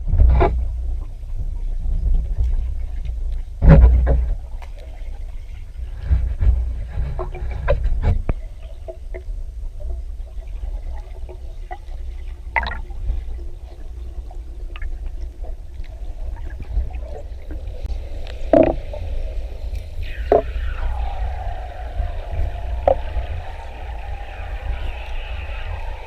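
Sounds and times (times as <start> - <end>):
water rumble: 0.0 - 26.0.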